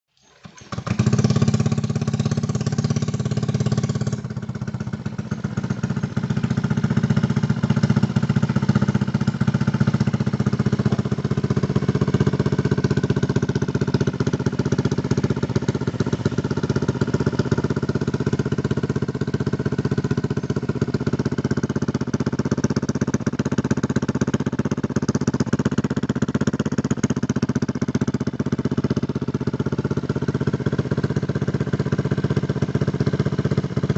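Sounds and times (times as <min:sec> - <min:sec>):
scooter engine idling: 0:00.3 - 0:33.9.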